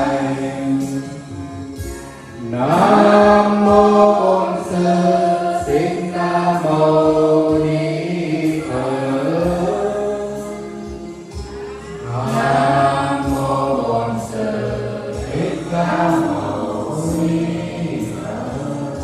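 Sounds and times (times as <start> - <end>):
monks and nuns chanting: 0.0 - 1.4, 2.4 - 11.1, 12.0 - 19.0.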